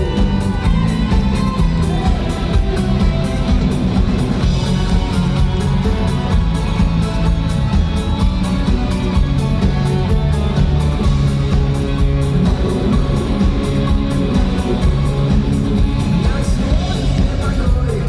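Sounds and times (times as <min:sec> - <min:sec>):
live pop-rock band playing: 0:00.0 - 0:18.0.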